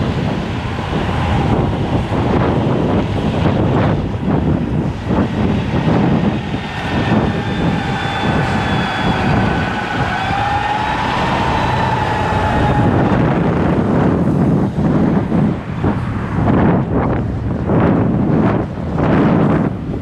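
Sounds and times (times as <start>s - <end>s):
street noise: 0.0s - 20.0s
wind buffeting microphone: 0.0s - 20.0s.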